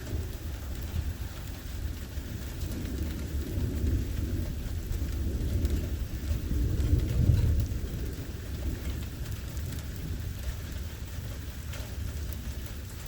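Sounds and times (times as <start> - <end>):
thunder rumbling: 0.0 - 11.4
heavy rain: 0.0 - 13.0.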